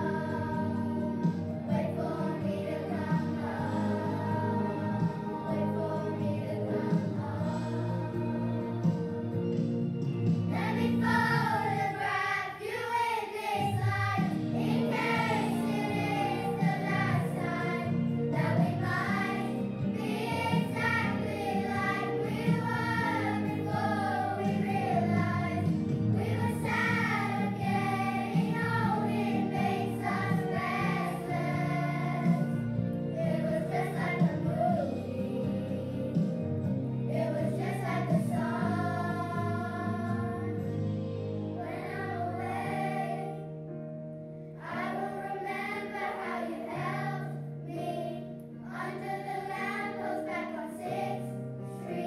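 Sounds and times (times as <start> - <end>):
children's choir singing: 0.0 - 9.6, 10.5 - 43.5, 44.6 - 52.0.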